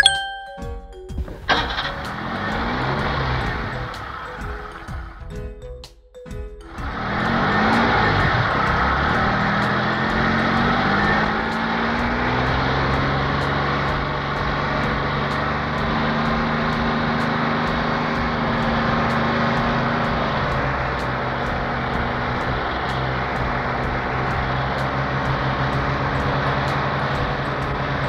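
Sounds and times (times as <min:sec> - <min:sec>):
car engine running: 0:01.2 - 0:05.4, 0:06.7 - 0:28.0.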